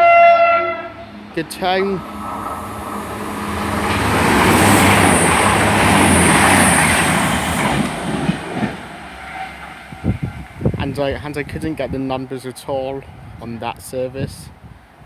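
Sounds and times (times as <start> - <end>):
diesel train engine passing: 0.0 - 13.8
wheel and rail rumble: 0.0 - 15.0.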